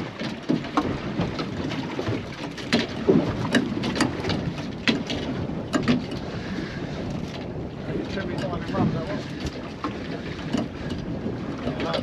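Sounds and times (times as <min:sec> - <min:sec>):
waves splashing against boat hull: 0:00.0 - 0:12.0
wind noise on microphone: 0:00.0 - 0:12.0.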